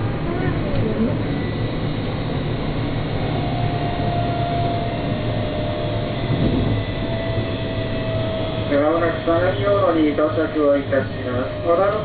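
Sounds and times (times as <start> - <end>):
faint steady whine: 0.0 - 12.0
train wheels rumbling: 0.0 - 12.0.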